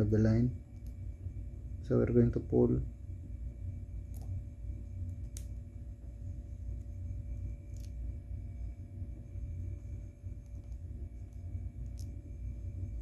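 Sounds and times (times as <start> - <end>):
faint hum: 0.0 - 13.0
low room rumble: 0.0 - 13.0.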